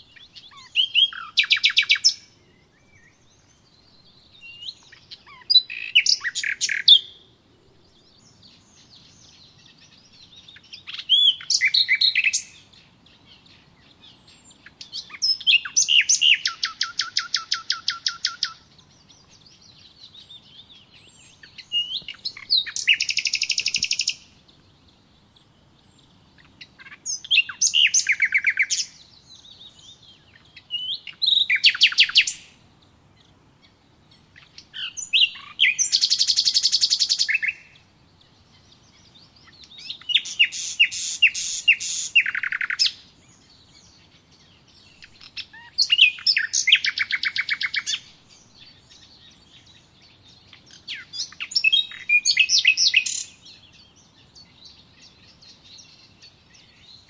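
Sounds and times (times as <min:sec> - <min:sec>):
songbird singing with trill: 0:00.0 - 0:57.0.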